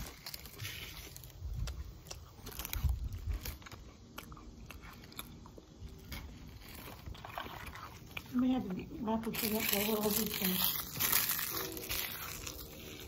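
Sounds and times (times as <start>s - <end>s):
person chewing crunchy snack: 0.0s - 8.4s, 9.3s - 13.0s.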